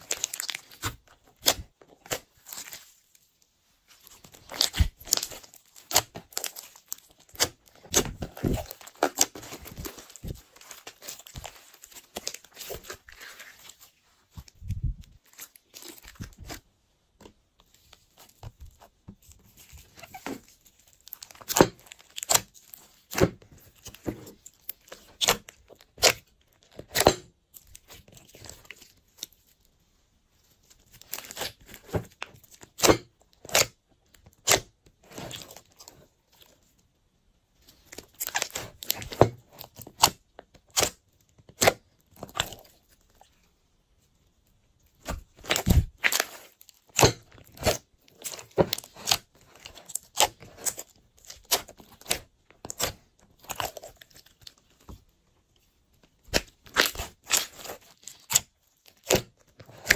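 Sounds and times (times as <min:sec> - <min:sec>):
hands squishing slime: 0:00.0 - 0:16.7, 0:17.6 - 0:29.5, 0:37.7 - 0:43.4, 0:44.9 - 0:55.0, 0:56.0 - 0:59.9.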